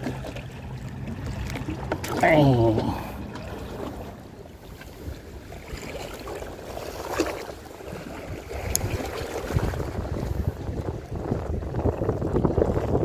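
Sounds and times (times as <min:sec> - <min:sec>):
sea rumble: 0:00.0 - 0:13.0
wind buffeting microphone: 0:00.7 - 0:13.0.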